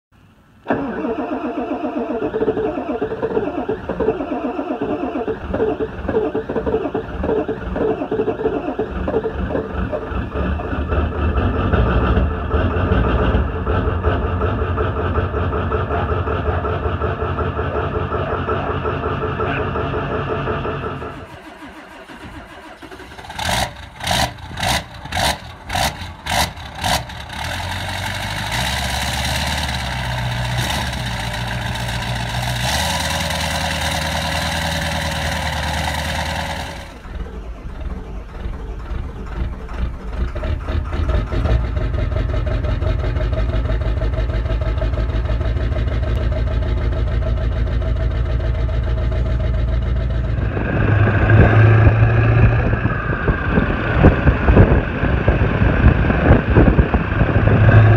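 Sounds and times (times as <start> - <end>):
diesel engine cranking: 0.1 - 57.9
diesel engine idling with whine: 0.2 - 57.9.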